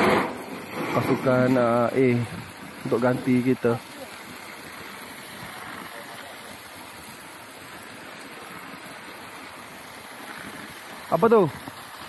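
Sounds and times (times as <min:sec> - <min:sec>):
hose spray hitting metal roofing: 0:00.0 - 0:12.0.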